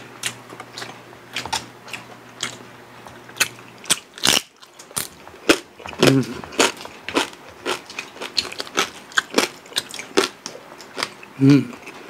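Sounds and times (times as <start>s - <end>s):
crunchy food chewing: 0.0s - 12.0s.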